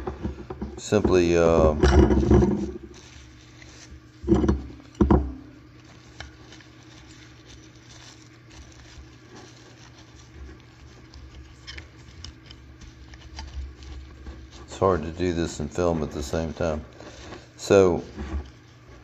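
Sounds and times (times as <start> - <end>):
plastic wrap crinkling: 2.6 - 19.0.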